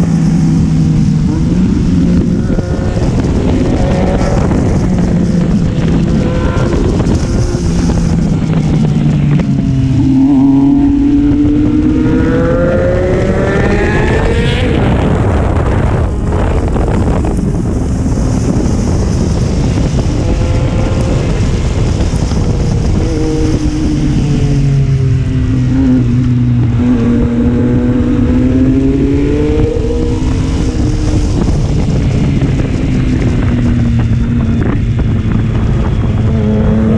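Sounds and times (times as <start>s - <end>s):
motorcycle engine accelerating: 0.0s - 36.9s
wind on microphone: 0.0s - 36.9s.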